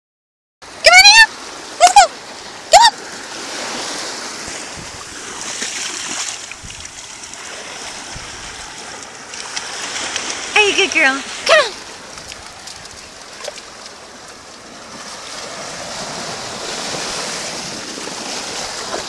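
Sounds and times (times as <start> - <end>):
shallow surf splashing: 0.6 - 19.0.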